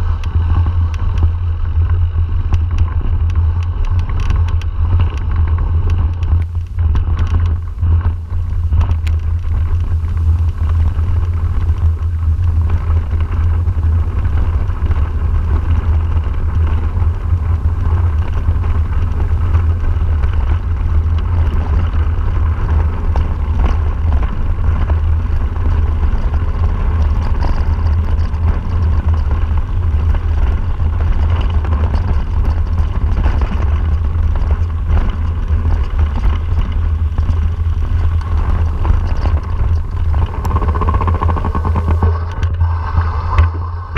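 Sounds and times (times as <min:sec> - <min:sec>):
bike tyres rolling on gravel: 0:00.0 - 0:43.9
wind buffeting microphone: 0:00.0 - 0:43.9.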